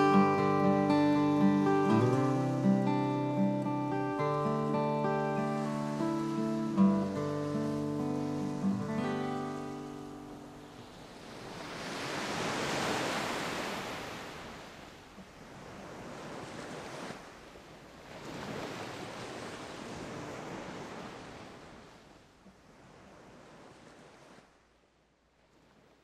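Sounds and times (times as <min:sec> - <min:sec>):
surf washing onto beach: 0:00.0 - 0:24.5.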